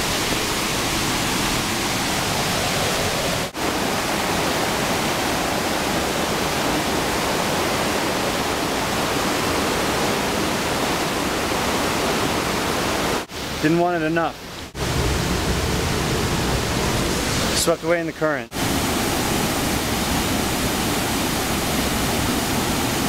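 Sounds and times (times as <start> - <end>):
flowing stream water: 0.0 - 23.0.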